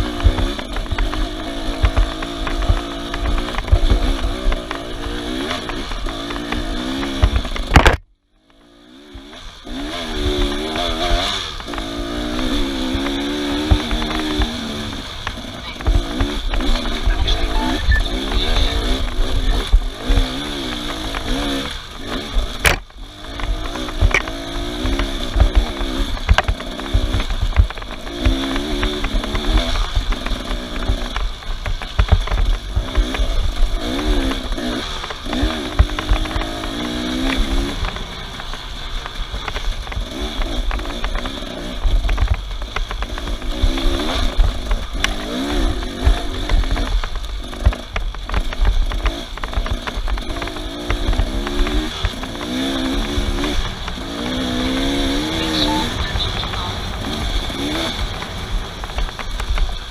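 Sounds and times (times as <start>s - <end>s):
off-road vehicle engines revving: 0.0s - 59.9s.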